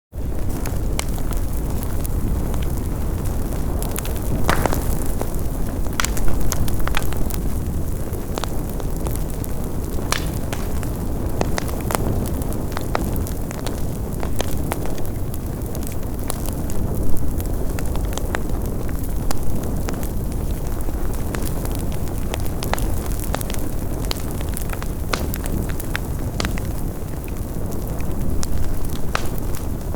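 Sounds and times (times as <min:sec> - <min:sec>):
low rumble of flames: 0:00.1 - 0:29.9
burning logs crackling: 0:00.2 - 0:29.9.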